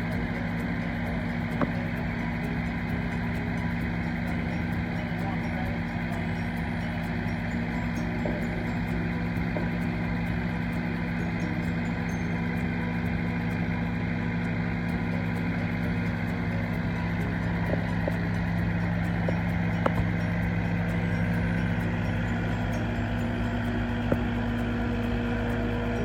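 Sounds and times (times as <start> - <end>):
large engine running steadily: 0.0 - 26.0.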